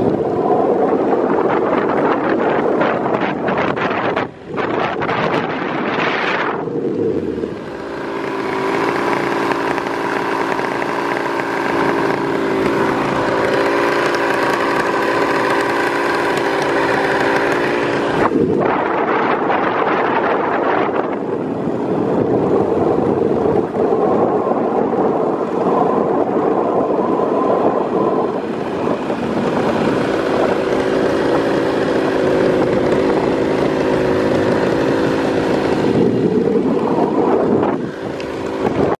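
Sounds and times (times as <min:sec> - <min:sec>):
paramotor engine and propeller: 0:00.0 - 0:39.0
wind rushing over microphone: 0:00.0 - 0:39.0.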